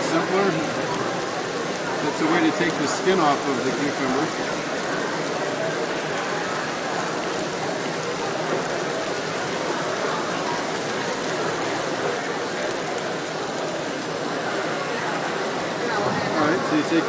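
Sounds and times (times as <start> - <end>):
vegetables and sausages sizzling: 0.0 - 17.0.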